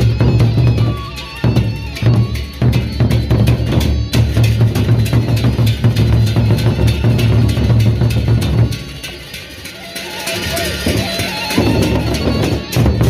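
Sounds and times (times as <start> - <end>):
barrel drums beaten by hand: 0.0 - 9.1, 10.9 - 13.0.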